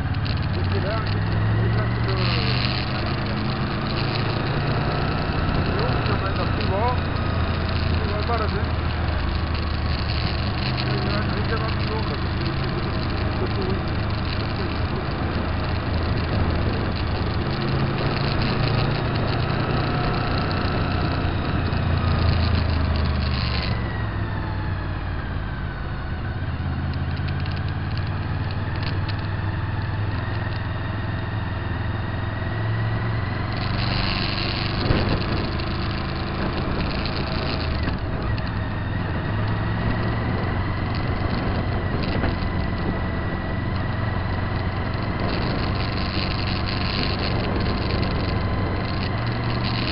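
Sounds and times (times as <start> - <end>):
motorcycle engine running: 0.0 - 49.9
road noise: 0.0 - 49.9
wind noise: 0.0 - 49.9.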